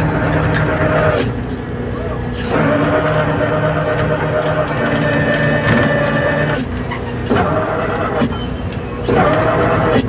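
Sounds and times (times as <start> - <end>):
deck winch droning: 0.0 - 10.0.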